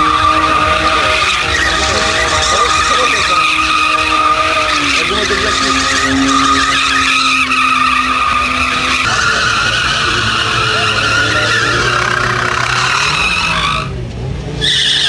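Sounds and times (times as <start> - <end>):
car engine revving high: 0.0 - 15.0
car tyres squealing: 0.0 - 15.0.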